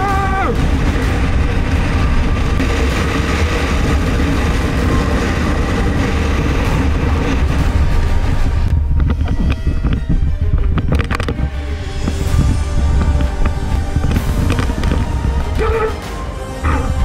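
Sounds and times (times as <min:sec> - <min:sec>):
motorcycle engine and road noise: 0:00.0 - 0:17.0.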